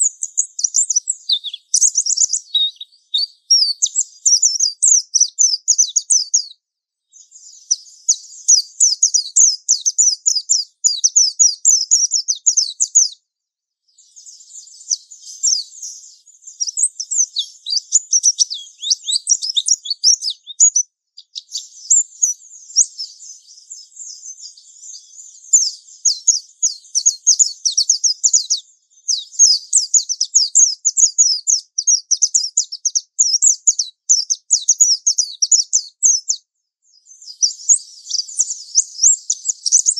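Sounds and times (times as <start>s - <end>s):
bird twittering rapidly: 0.0s - 13.2s, 14.0s - 36.4s, 37.0s - 39.9s.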